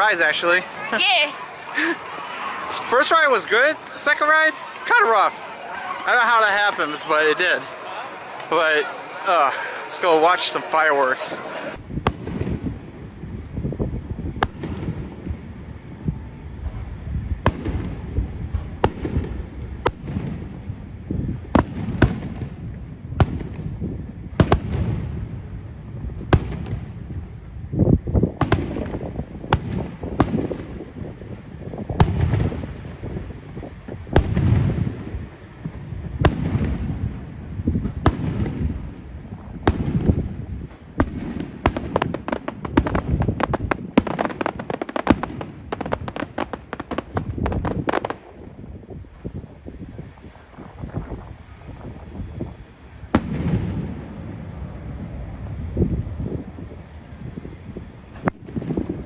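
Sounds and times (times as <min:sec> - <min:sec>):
fireworks bangs and booms: 0:00.0 - 0:59.0
fireworks crackling: 0:00.0 - 0:59.0.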